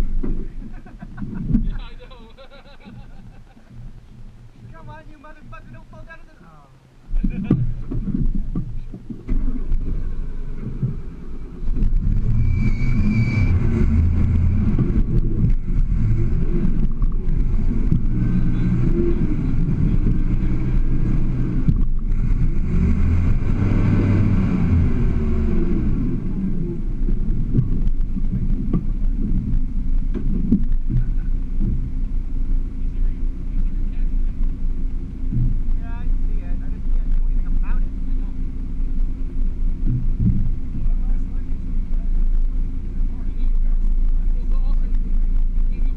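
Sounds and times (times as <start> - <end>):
truck engine revving: 7.2 - 44.4.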